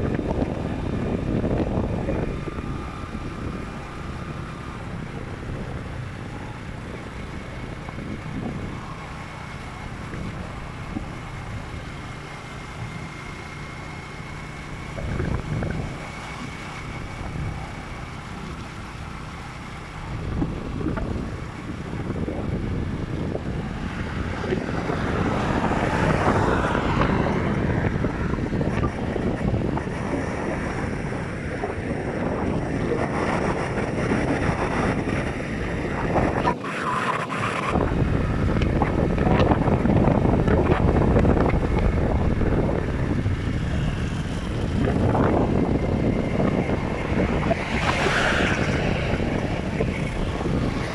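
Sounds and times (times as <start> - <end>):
road and vehicle noise: 0.0 - 50.9
wind buffeting microphone: 0.0 - 50.9.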